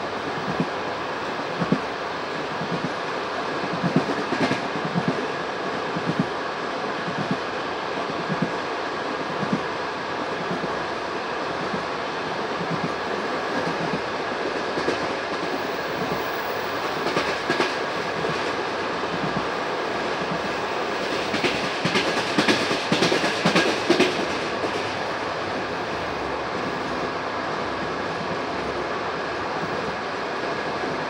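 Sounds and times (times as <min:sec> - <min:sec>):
train carriage rumbling on track: 0:00.0 - 0:31.0.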